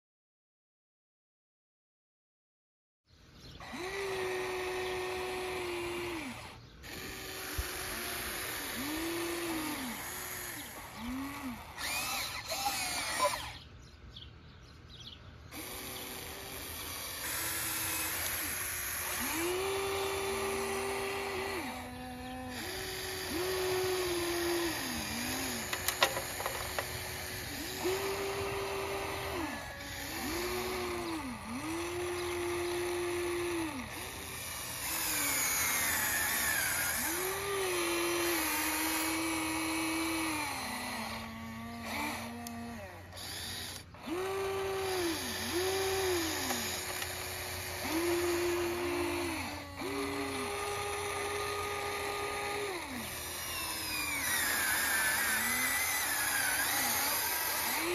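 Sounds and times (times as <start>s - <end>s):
electric motors whining: 3.4s - 14.2s, 15.0s - 57.9s.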